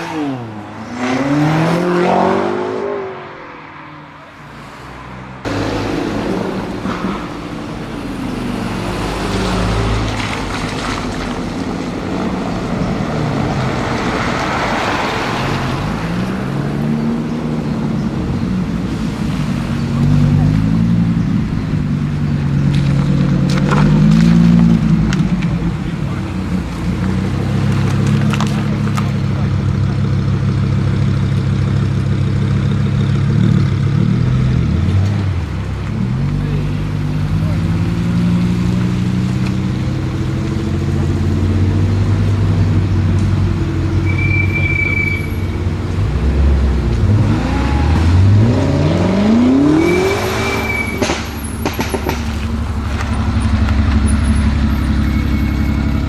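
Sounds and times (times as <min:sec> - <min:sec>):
car engine running: 0:05.4 - 0:56.0.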